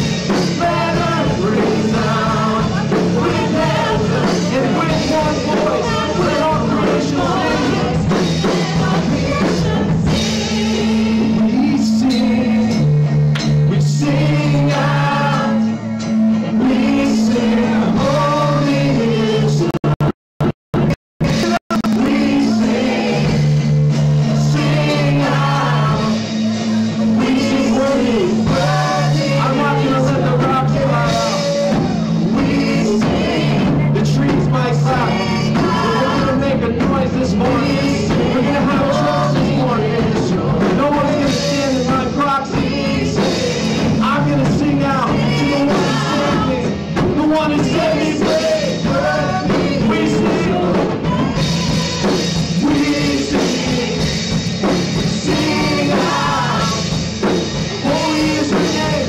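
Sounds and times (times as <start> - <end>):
voices singing together: 0.0 - 20.0, 21.2 - 59.0
keyboard and band accompaniment: 0.0 - 59.0.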